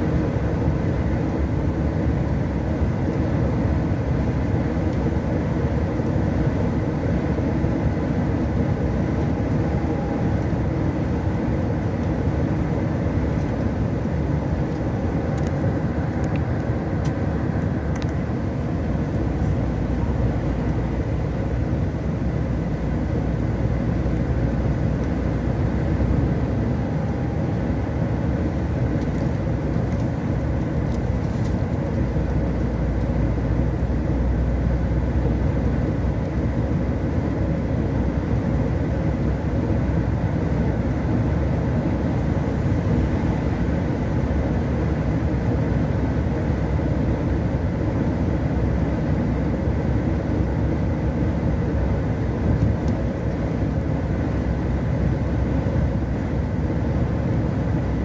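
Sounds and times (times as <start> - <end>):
engine rumble inside vehicle: 0.0 - 58.0.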